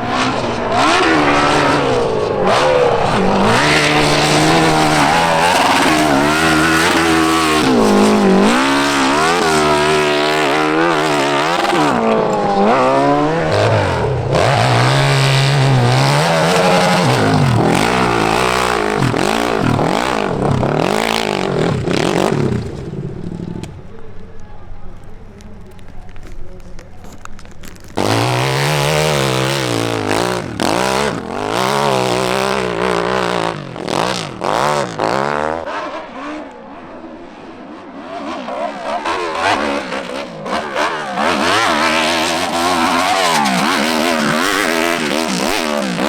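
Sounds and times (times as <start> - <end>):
motorcycle engine revving hard: 0.0 - 23.9, 27.6 - 46.0.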